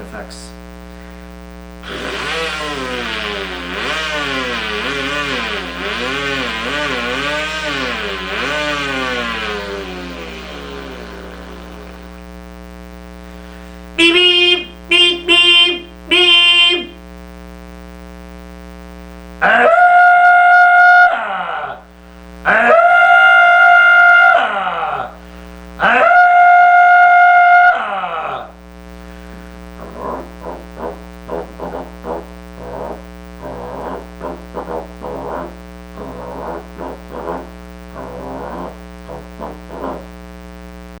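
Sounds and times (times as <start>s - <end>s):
steady hum: 0.0s - 41.0s
person making horn-like vocal blasts: 1.8s - 12.2s, 14.0s - 17.0s, 19.4s - 28.6s, 29.8s - 40.2s.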